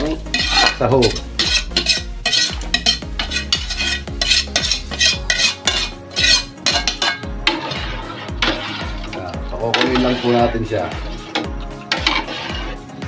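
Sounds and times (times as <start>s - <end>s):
spatula scraping a metal wok: 0.0s - 13.0s.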